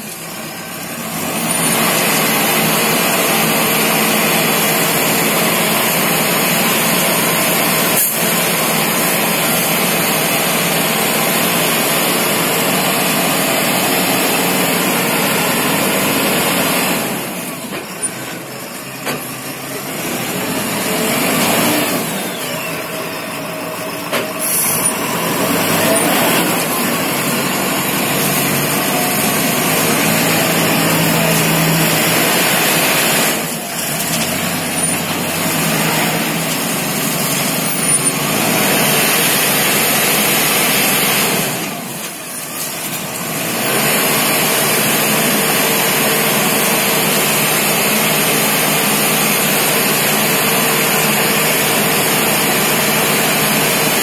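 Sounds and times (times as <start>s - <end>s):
concrete mixer engine running: 0.0s - 54.0s.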